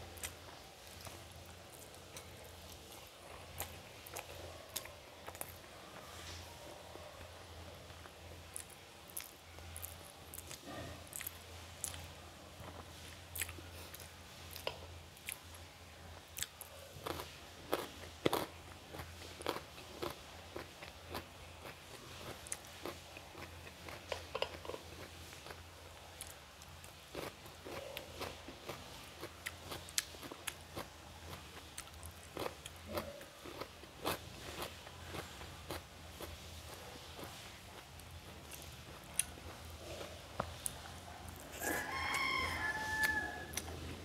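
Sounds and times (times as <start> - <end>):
faint low hum: 0.0 - 44.0
person chewing wetly: 0.1 - 6.2, 7.9 - 43.9.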